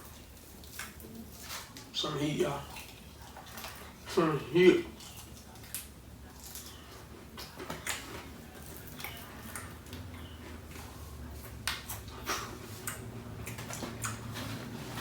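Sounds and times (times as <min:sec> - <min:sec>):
chewing and mouth smacks: 0:00.0 - 0:01.9, 0:02.7 - 0:04.1, 0:04.9 - 0:15.0.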